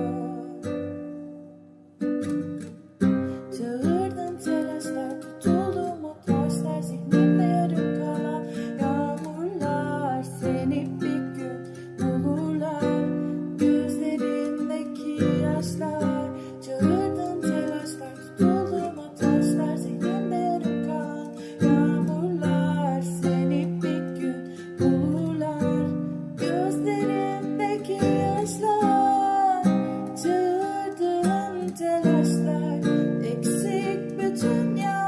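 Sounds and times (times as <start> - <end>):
strummed acoustic guitar: 0.0 - 35.0.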